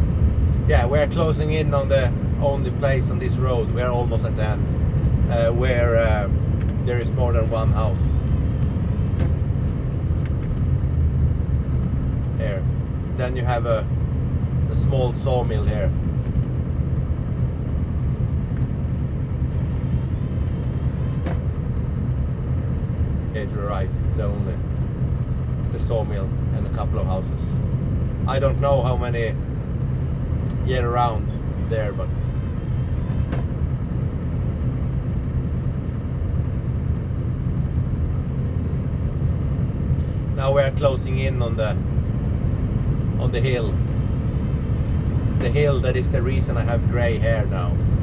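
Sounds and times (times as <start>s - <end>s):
diesel truck engine rumbling: 0.0s - 48.0s.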